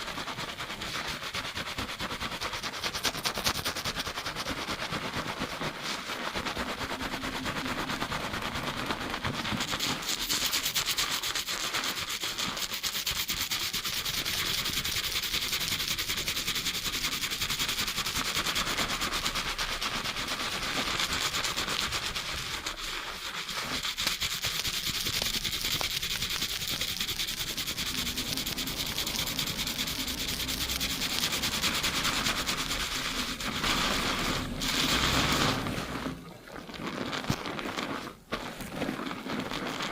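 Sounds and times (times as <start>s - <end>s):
fingers scrubbing lathered hair: 0.0s - 39.9s.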